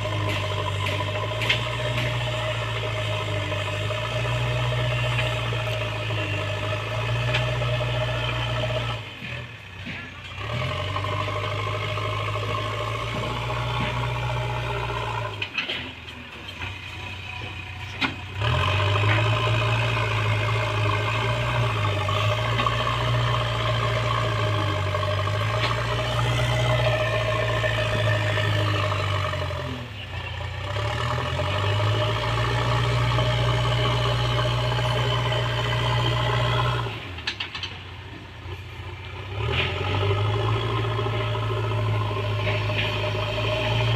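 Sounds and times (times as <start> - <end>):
diesel engine running under load: 0.0 - 43.9.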